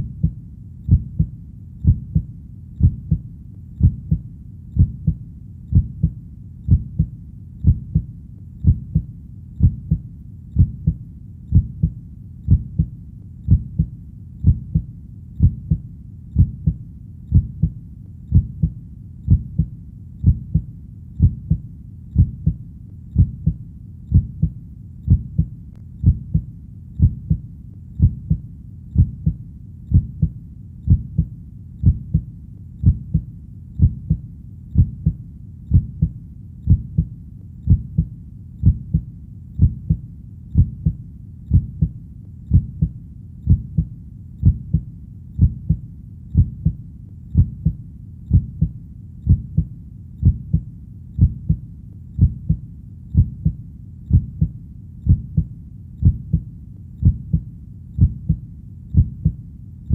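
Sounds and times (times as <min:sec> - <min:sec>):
heartbeat thumping: 0:00.0 - 0:51.6, 0:52.2 - 0:59.9.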